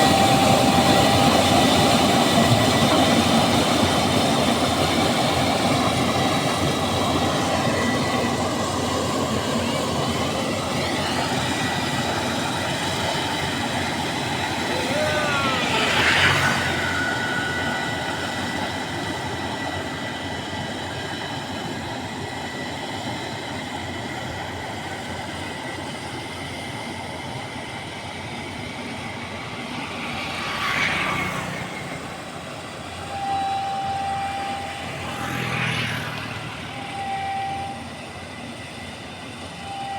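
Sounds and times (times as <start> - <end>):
combine harvester running: 0.0 - 39.9
high machinery whines: 0.0 - 39.9.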